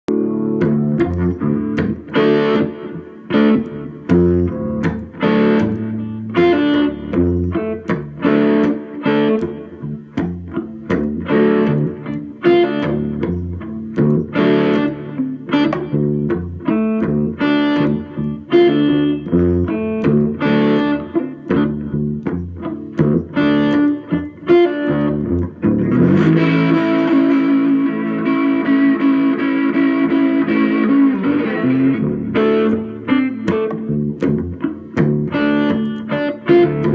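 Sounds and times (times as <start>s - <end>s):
slide electric guitar: 0.1s - 36.9s.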